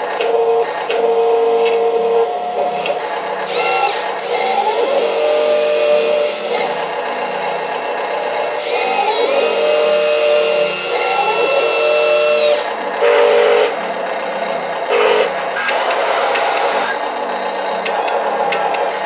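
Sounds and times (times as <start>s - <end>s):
small electric gear motors whining: 0.0s - 14.0s, 14.9s - 19.0s.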